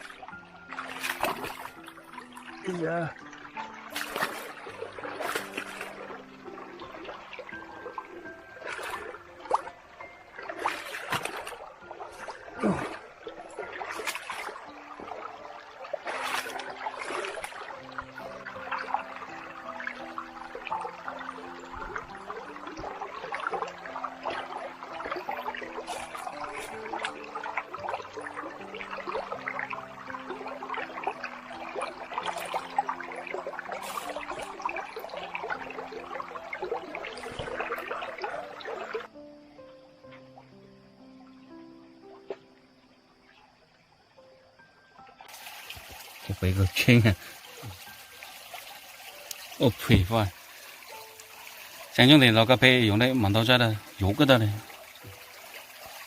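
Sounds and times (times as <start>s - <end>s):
water splashes: 0.0s - 39.2s, 45.2s - 56.0s
soft background music: 0.0s - 56.0s
stream water trickling: 0.0s - 56.0s.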